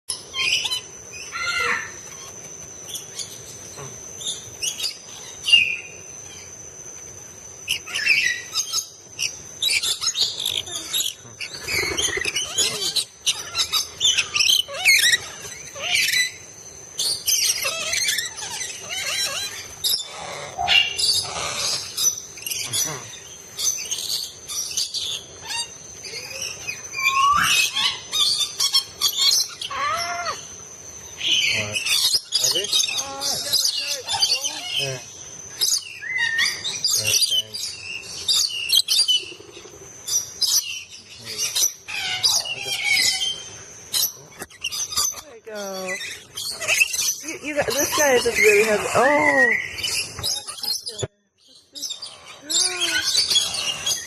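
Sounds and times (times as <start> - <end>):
parrots screeching and chirping: 0.1 - 6.5, 7.6 - 54.0.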